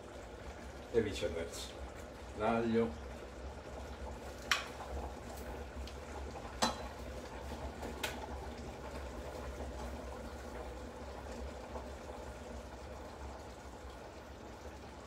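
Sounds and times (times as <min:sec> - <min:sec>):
sauce simmering: 0:00.0 - 0:15.0.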